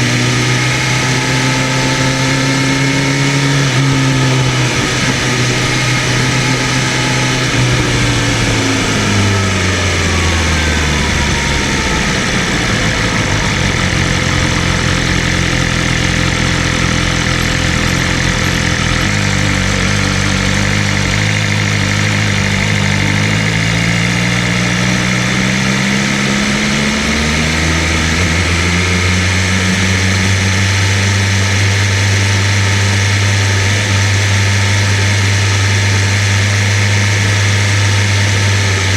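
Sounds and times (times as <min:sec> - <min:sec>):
motorcycle engine: 0:00.0 - 0:38.9
wind and road noise: 0:00.0 - 0:38.9.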